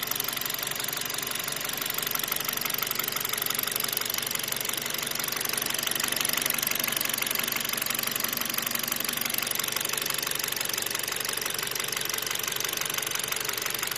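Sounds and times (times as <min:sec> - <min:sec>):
car engine running: 0:00.0 - 0:13.9
rapid engine knock: 0:00.0 - 0:13.9.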